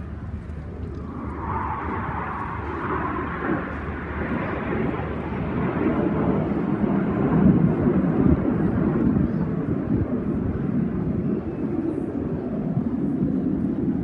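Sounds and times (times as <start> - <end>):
aircraft flying past: 0.0 - 14.0.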